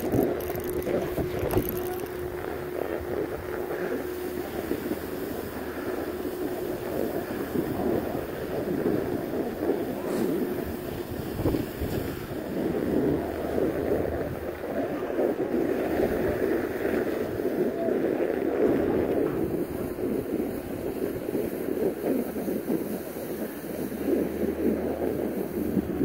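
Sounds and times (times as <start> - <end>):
sliding over packed snow: 0.0 - 26.0
wind on microphone: 0.0 - 26.0.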